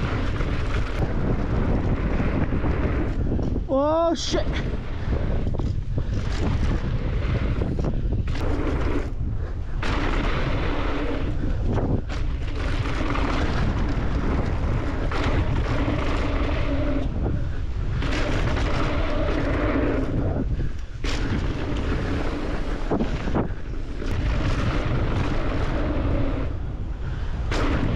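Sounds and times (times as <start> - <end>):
bike tyres rumbling on trail: 0.0 - 27.9
wind buffeting microphone: 0.0 - 27.9.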